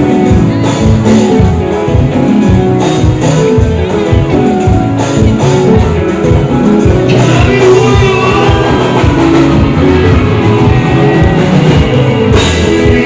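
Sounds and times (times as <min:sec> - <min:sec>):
amplified live band music: 0:00.0 - 0:13.0.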